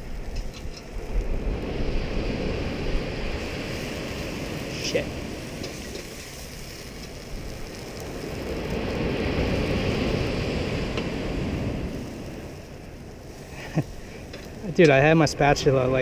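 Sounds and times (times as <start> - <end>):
wind: 0.0 - 16.0
surf: 0.9 - 16.0.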